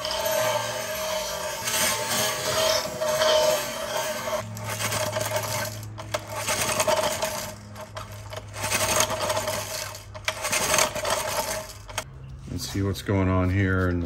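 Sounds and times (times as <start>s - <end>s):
small engine pulled over by hand: 0.0s - 12.1s.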